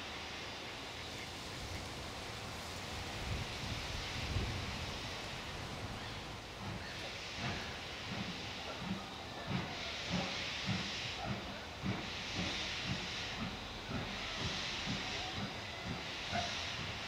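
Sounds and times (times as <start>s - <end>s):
steam hissing: 0.0s - 17.0s
steam locomotive exhaust chuffs: 0.0s - 17.0s.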